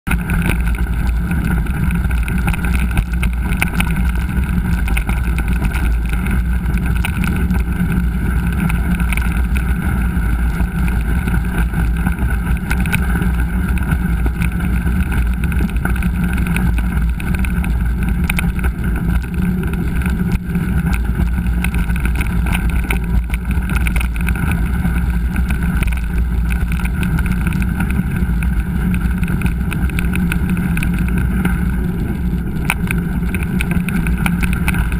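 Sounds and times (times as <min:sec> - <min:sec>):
rumbling wind and riding noise: 0:00.0 - 0:34.9
bike rattles and knocks: 0:00.1 - 0:34.9.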